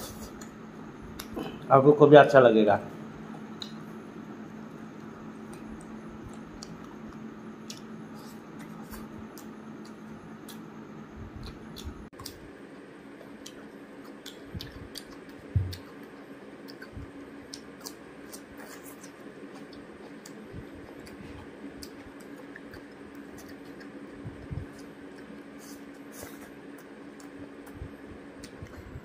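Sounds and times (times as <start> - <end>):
man chewing: 0.0 - 1.6, 4.9 - 29.0
faint steady hum: 0.0 - 29.0.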